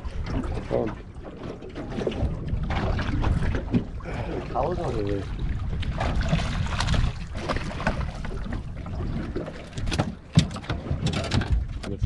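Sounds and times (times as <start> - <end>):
water slapping against hull: 0.0 - 12.0
wind rumbling on microphone: 0.0 - 12.0.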